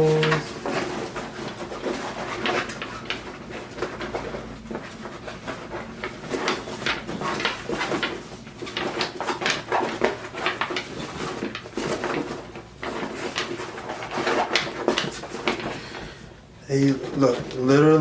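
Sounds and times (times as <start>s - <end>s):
bag rustling: 0.0s - 18.0s.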